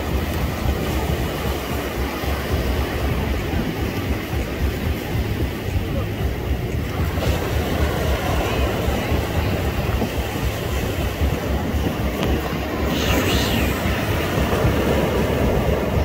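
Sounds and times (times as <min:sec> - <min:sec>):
sea waves breaking on shore: 0:00.0 - 0:16.0
wind on microphone: 0:00.0 - 0:16.0.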